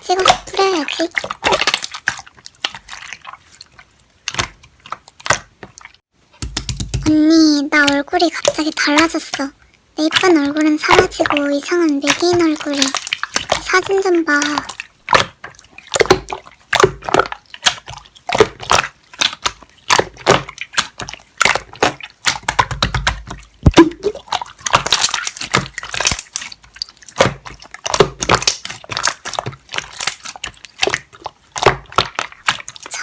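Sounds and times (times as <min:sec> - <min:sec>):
slime squishing by hand: 0:00.0 - 0:33.0.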